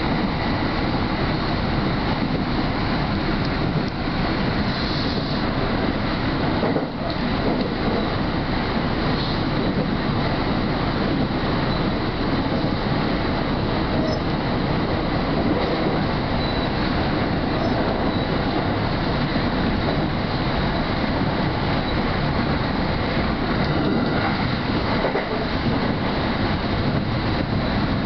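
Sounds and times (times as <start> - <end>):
train wheels on rail: 0.0 - 28.0.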